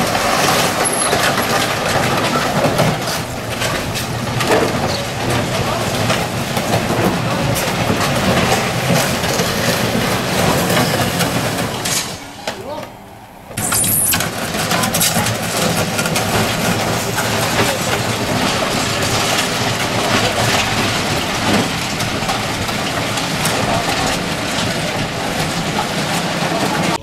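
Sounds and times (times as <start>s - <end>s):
electric locomotive droning: 0.0s - 27.0s.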